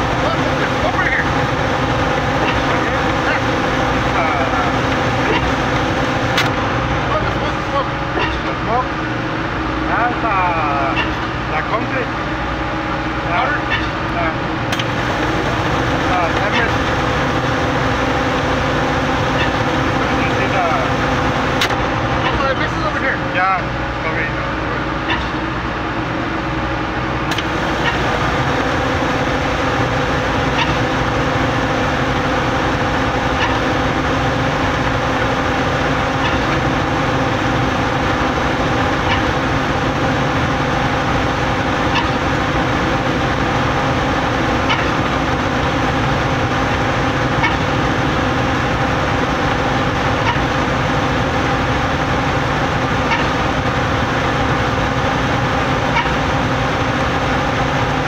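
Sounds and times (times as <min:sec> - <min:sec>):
concrete pump engine hum: 0:00.0 - 0:58.0.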